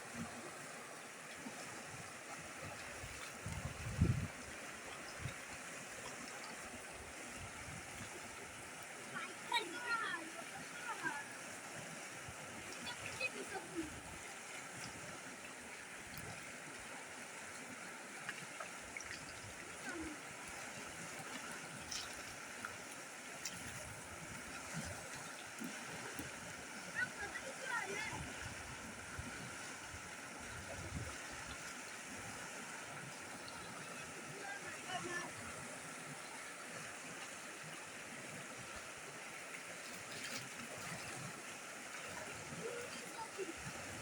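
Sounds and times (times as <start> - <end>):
falling water rushing: 0.0 - 44.0.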